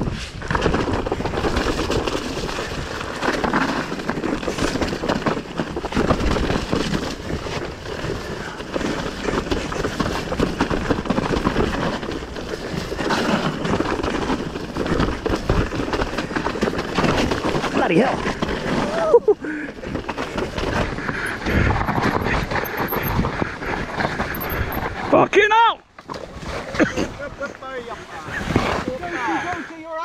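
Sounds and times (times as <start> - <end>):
bike rattling over rough ground: 0.0 - 30.0.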